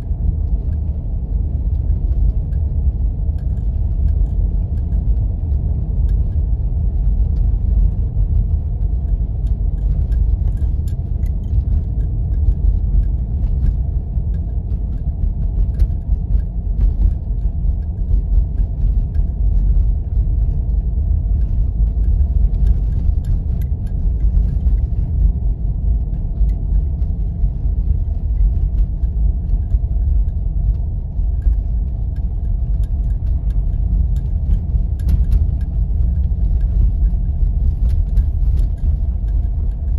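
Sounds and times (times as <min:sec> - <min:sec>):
engine and tyres rumbling on snow: 0:00.0 - 0:39.9
light ticks: 0:01.6 - 0:39.9.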